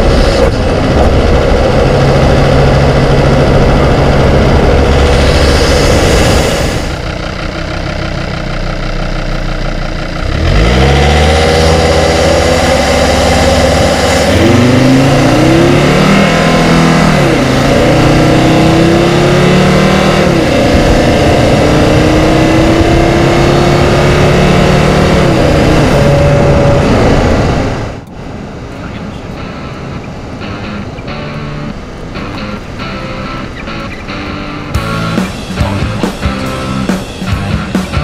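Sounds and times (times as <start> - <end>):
diesel engine accelerating hard: 0.0 - 38.0.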